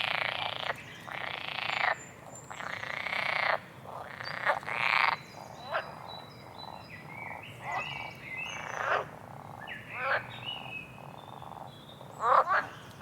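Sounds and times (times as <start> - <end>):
frogs croaking: 0.0 - 13.0.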